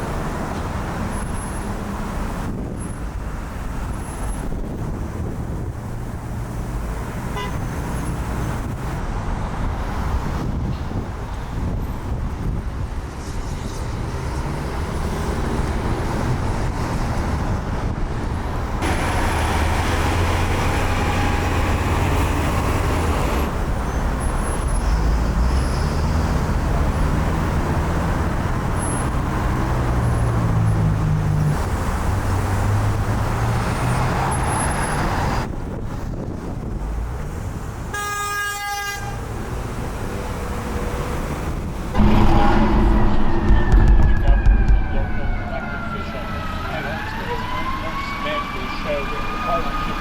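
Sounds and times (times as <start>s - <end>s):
vehicle engines humming: 0.0s - 38.0s, 38.9s - 50.0s
tyre and street noise: 0.0s - 50.0s.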